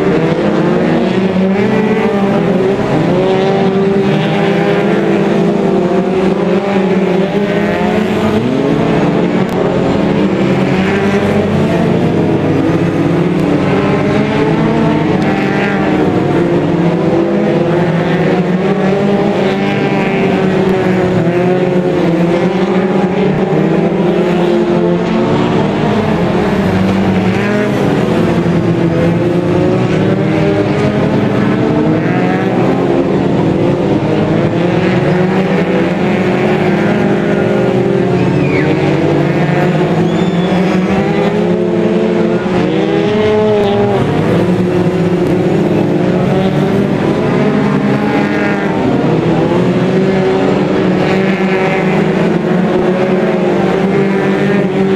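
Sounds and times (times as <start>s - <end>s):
racing car engines: 0.0s - 54.9s.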